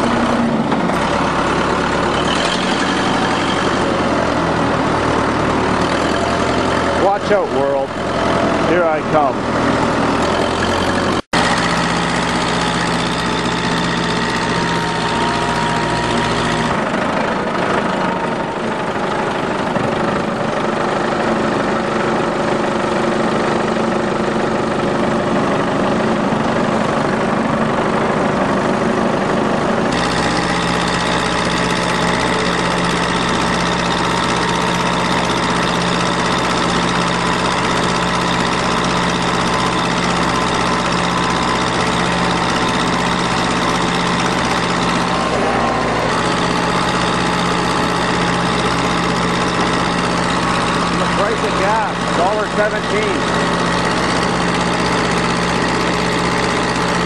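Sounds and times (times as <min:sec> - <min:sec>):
tractor engine rumble: 0:00.0 - 0:57.0.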